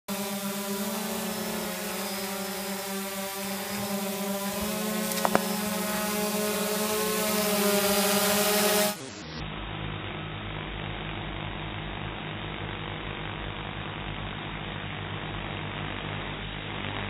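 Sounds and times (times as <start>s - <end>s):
drone propellers buzzing: 0.1s - 17.0s.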